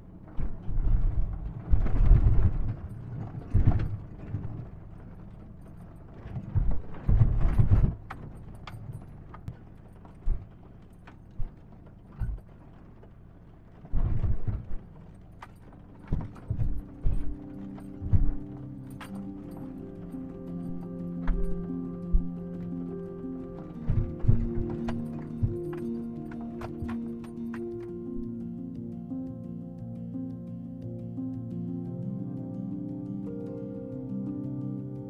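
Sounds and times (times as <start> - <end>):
sharp clicks and rattles: 0.2 - 31.6.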